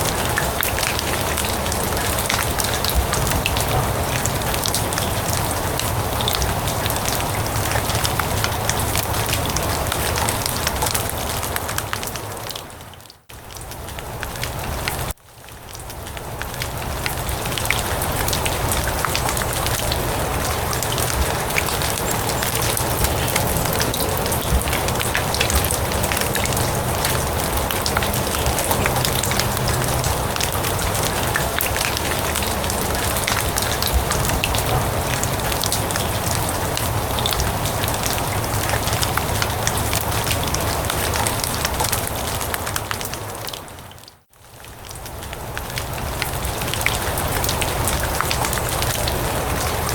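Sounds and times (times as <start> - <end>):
rain falling on grass: 0.0 - 49.9.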